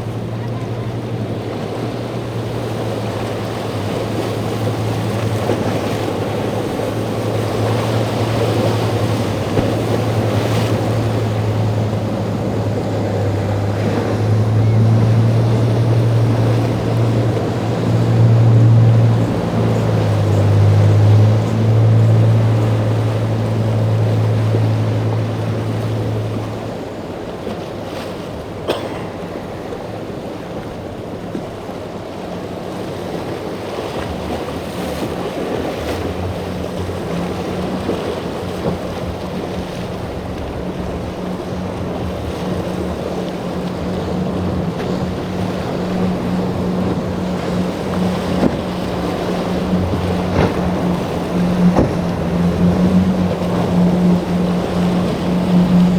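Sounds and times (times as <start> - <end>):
deep boat engine drone: 0.0 - 55.9
higher boat engine tone: 0.0 - 55.9
waves rushing: 0.0 - 55.9.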